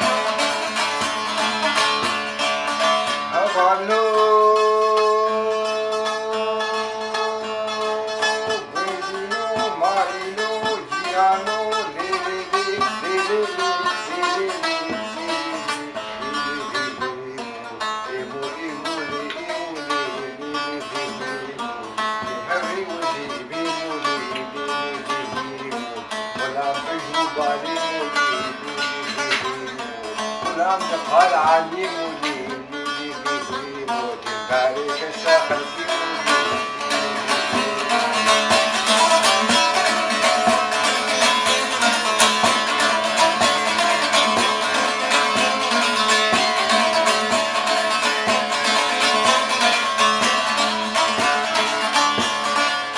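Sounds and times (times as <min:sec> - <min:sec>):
long-necked lute melody: 0:00.0 - 0:52.9.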